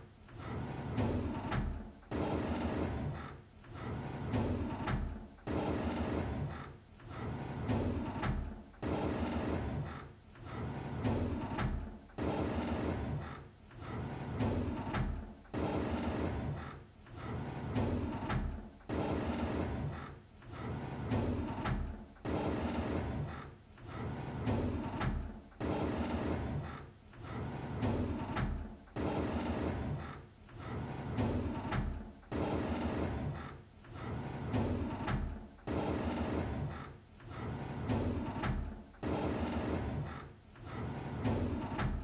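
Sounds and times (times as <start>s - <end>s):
drawer sliding open: 0.3s - 22.0s, 22.6s - 42.0s.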